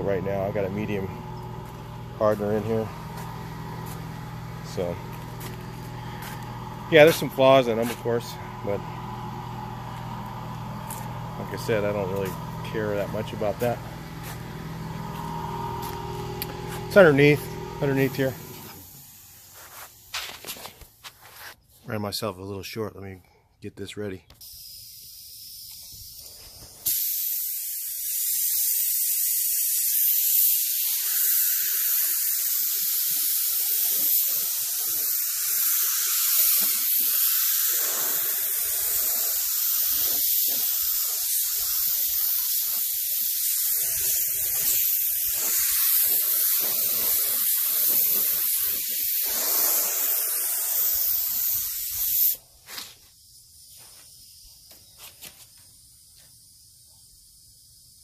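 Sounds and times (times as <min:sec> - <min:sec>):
paint spray gun hissing: 0:00.0 - 0:21.0, 0:24.4 - 0:58.0.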